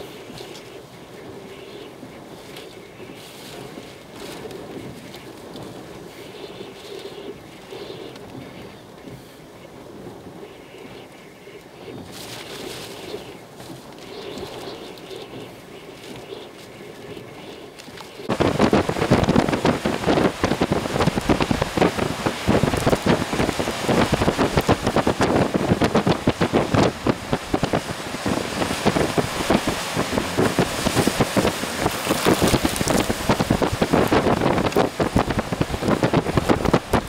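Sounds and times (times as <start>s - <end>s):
driven rain: 0.0s - 37.0s
gusty wind on microphone: 0.0s - 37.0s.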